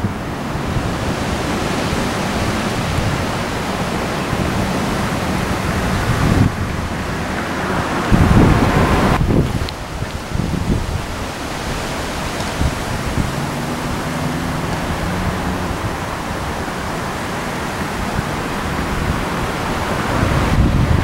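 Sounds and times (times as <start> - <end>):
rushing wind: 0.0 - 21.0.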